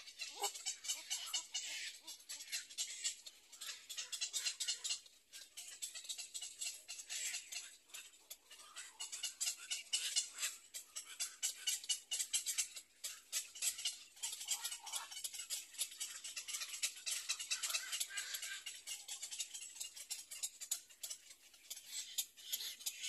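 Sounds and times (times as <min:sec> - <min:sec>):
heron chicks clicking chatter: 0:00.0 - 0:23.0.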